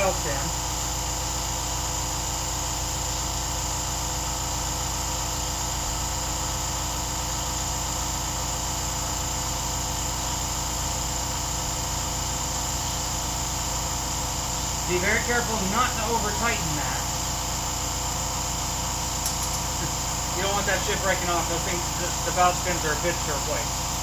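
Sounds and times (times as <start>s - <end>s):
mechanical drone and hiss: 0.0s - 24.0s.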